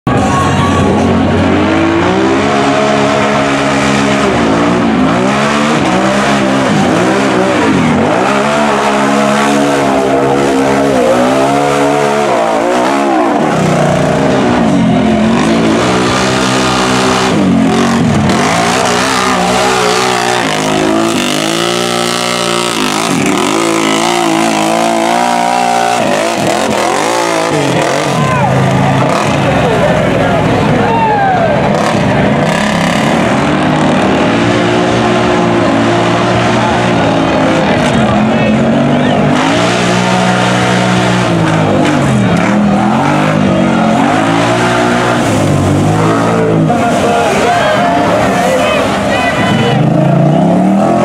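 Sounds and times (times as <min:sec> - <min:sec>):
atv engines revving: 0:00.0 - 0:51.0.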